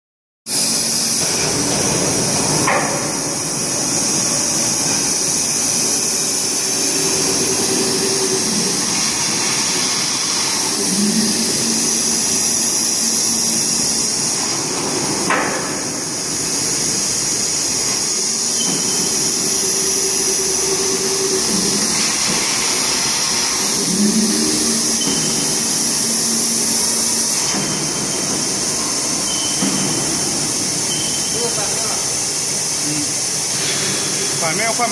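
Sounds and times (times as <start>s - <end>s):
low motor hum: 0.6s - 31.9s.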